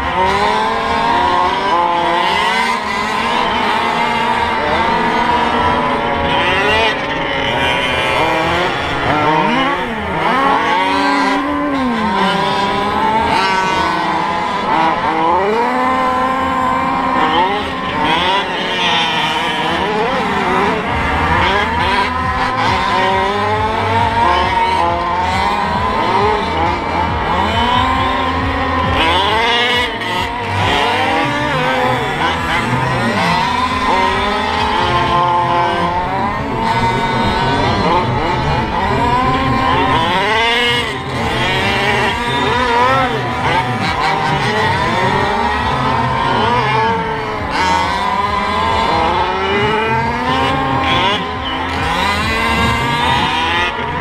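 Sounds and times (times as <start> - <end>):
rc truck engines revving: 0.0 - 54.0.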